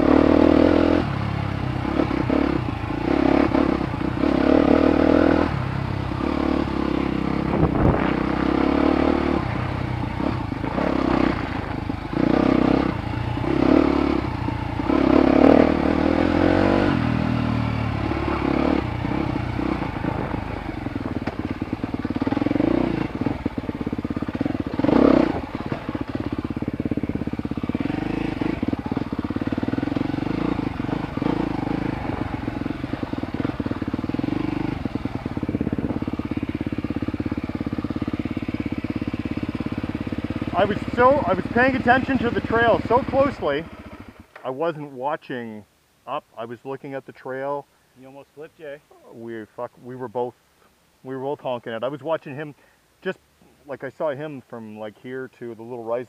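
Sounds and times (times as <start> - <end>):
dirt bike engine: 0.0 - 45.2.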